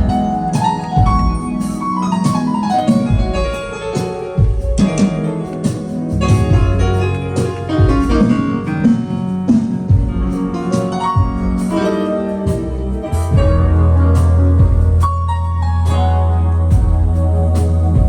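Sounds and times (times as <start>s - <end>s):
bass and drums: 0.0s - 18.0s
keyboard chords: 0.0s - 18.0s.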